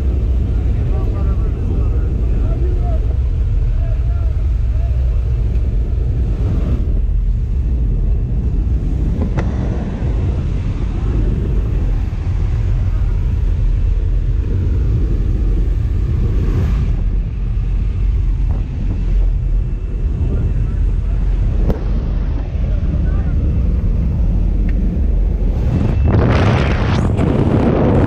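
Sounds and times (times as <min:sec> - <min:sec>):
aircraft engine noise: 0:00.0 - 0:28.0
wind rushing: 0:00.0 - 0:28.0.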